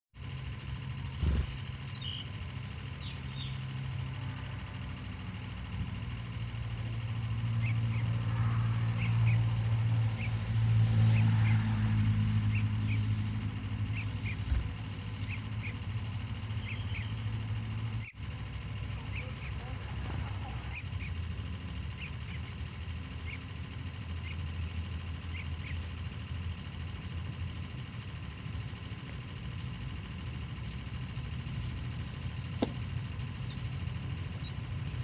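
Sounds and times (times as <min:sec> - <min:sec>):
low engine hum: 0:00.2 - 0:35.0
nestlings begging chirps: 0:00.2 - 0:35.0.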